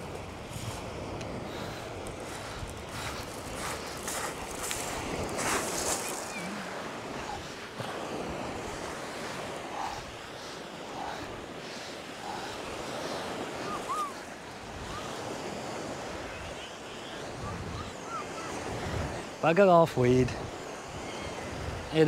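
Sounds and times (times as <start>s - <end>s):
waves washing onto shingle: 0.0s - 22.0s
wind buffeting microphone: 0.0s - 22.0s.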